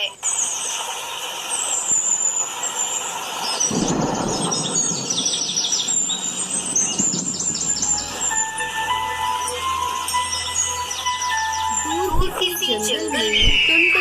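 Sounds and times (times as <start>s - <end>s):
small birds chirping: 0.0s - 14.0s
steady noisy background: 0.0s - 14.0s.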